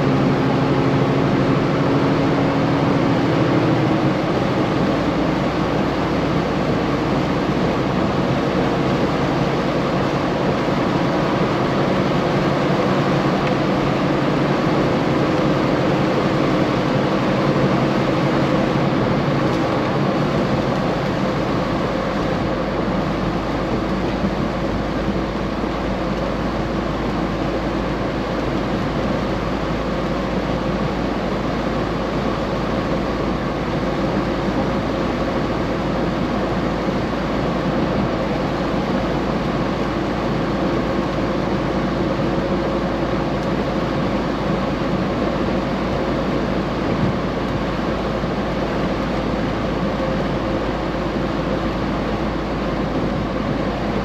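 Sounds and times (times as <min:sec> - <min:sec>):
truck engine and road drone: 0:00.0 - 0:54.0.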